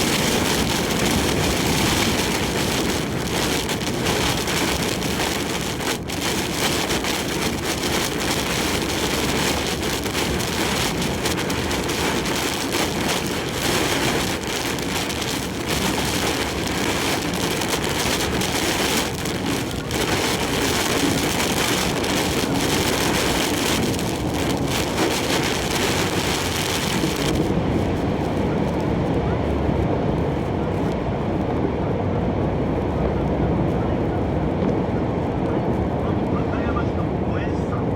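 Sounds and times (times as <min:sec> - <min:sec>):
heavy rain and wind on truck: 0:00.0 - 0:37.9.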